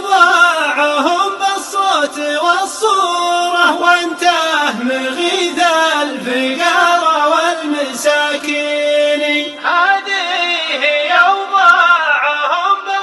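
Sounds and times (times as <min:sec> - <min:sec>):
man chanting a sung poem: 0:00.0 - 0:13.0.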